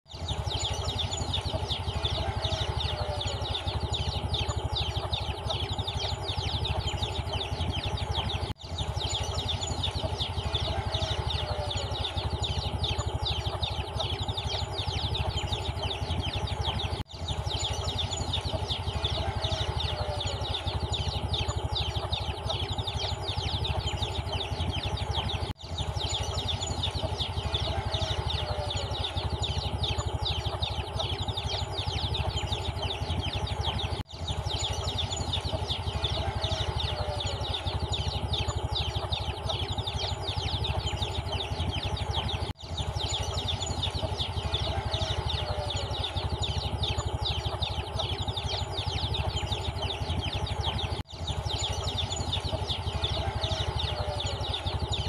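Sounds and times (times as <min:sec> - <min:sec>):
chicks peeping: 0:00.1 - 0:55.0
steady low hum: 0:00.1 - 0:55.0.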